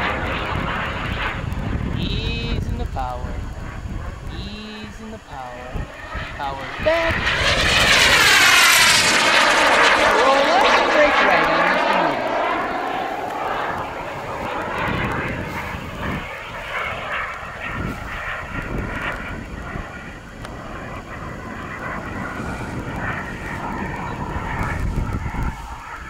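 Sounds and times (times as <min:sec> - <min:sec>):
jet turbine hissing whoosh: 0:00.0 - 0:26.0
low rumble: 0:00.0 - 0:26.0.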